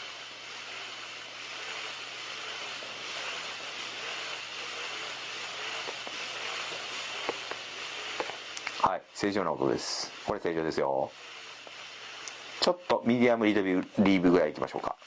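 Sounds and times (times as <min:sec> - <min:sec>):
fishing reel whirring: 0:00.0 - 0:15.0.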